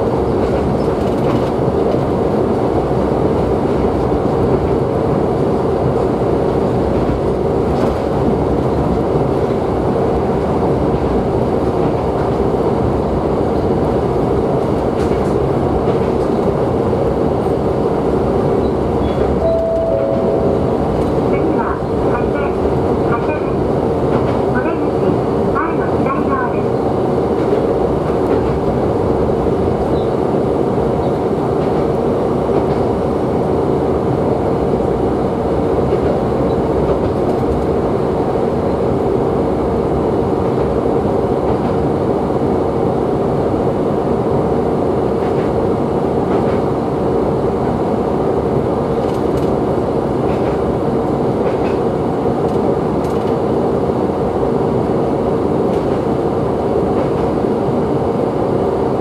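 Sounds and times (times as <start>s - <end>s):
train engine and wheels drone: 0.0s - 59.0s.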